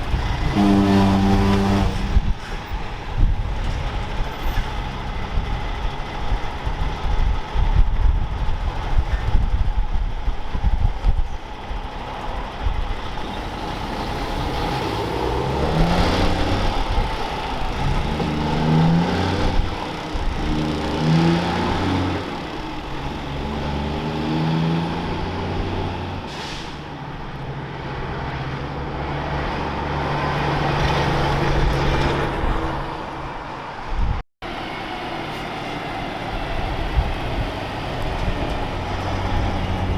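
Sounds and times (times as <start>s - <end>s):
diesel truck accelerating: 0.0s - 39.9s.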